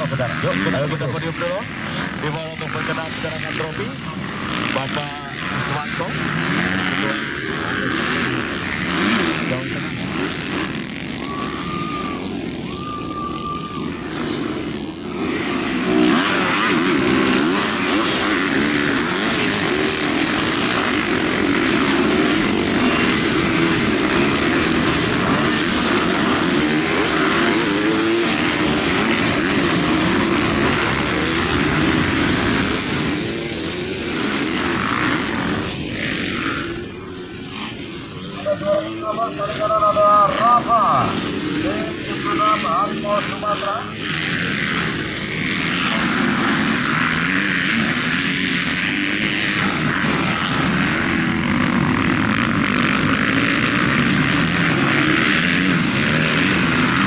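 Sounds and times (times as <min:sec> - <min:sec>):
high steady whine: 0:00.0 - 0:57.0
motocross bike engines revving: 0:00.0 - 0:57.0.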